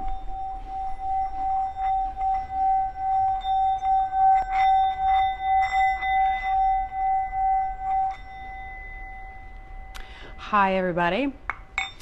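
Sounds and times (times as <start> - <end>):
striker rasping on bowl rim: 0.0 - 10.8
singing bowl ringing tone: 0.0 - 11.0.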